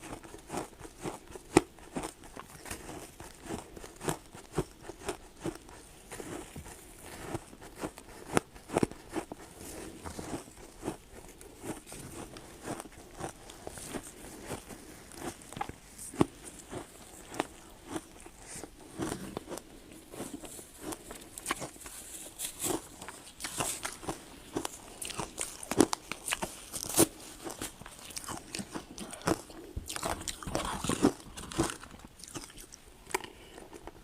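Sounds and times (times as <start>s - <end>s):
ice crunching between teeth: 0.0s - 34.0s.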